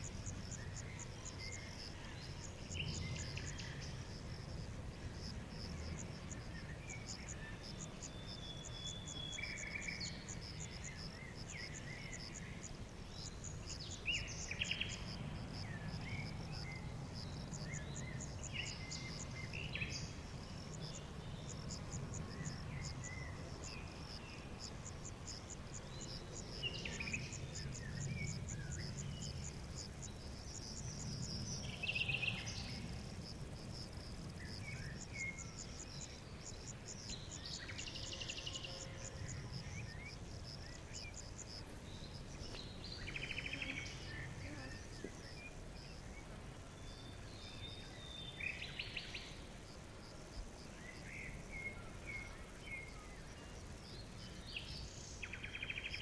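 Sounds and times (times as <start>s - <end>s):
insect chirping in pulses: 0.0s - 56.0s.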